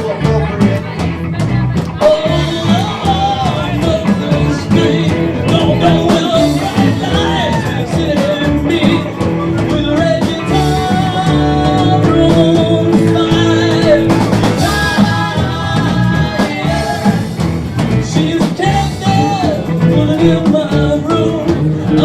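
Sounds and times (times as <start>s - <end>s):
drum kit beat: 0.0s - 22.0s
live rock band playing: 0.0s - 22.0s.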